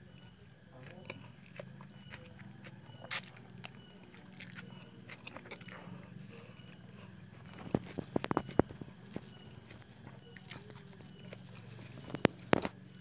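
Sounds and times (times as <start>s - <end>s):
wet chewing: 0.1s - 13.0s.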